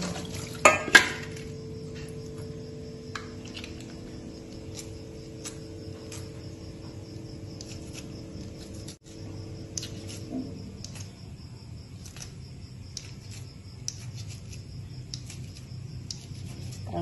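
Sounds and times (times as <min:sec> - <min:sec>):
crickets chirping: 0:00.0 - 0:17.0
low steady hum: 0:00.0 - 0:17.0.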